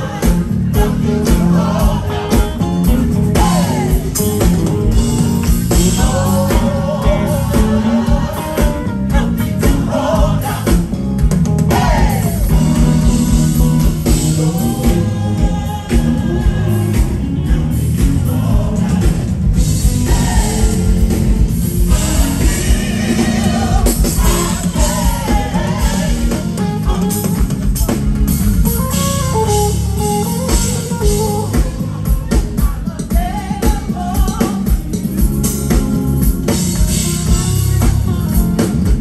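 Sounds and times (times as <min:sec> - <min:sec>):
live band playing: 0:00.0 - 0:39.0.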